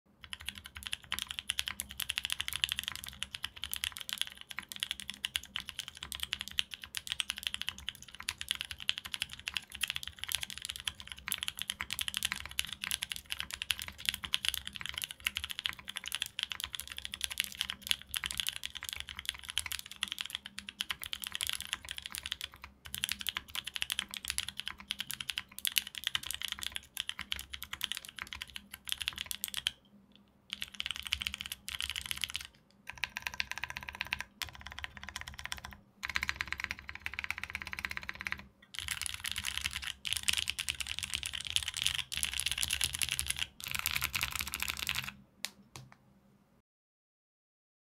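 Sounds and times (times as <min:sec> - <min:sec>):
fast typing on mechanical keyboard: 0:00.2 - 0:29.8, 0:30.5 - 0:45.2.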